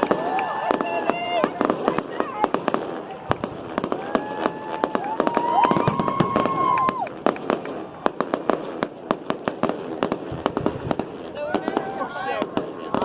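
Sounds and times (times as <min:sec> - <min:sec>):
fireworks bangs and crackling: 0:00.0 - 0:13.0
fireworks whistling: 0:00.0 - 0:13.0.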